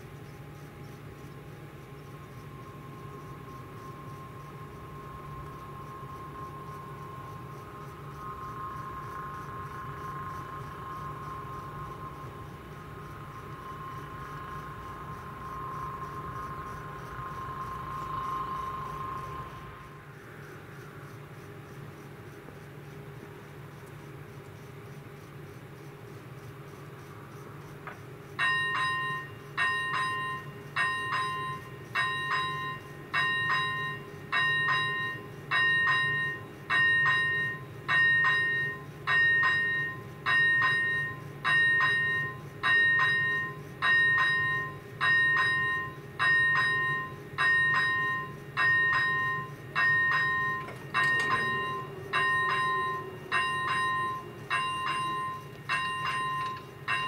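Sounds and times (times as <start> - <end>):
level crossing warning bell: 1.6 - 20.0, 28.4 - 57.0.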